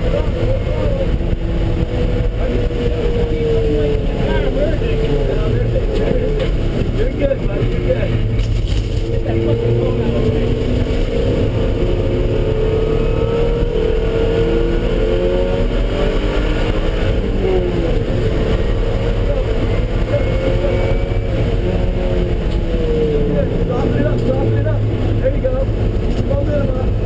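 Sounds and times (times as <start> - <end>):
race car engine revving: 0.0 - 27.0
road and wind noise: 0.0 - 27.0.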